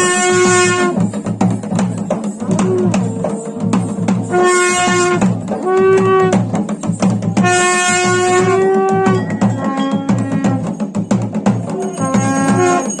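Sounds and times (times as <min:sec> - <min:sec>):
steady drumbeats: 0:00.0 - 0:13.0.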